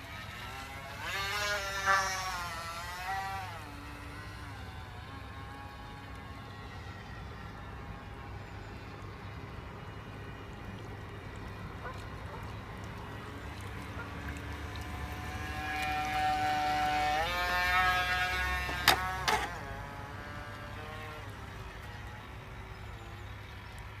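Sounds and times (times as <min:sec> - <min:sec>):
model boat motor whine: 0:00.0 - 0:24.0.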